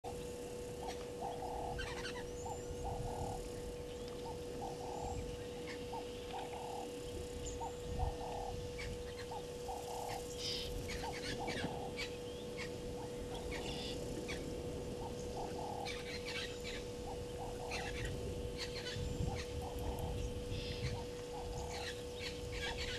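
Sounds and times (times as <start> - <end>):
constant steady hum: 0.0 - 22.9
low repeated bird call: 0.1 - 22.9
birds chirping and whistling: 0.2 - 22.9.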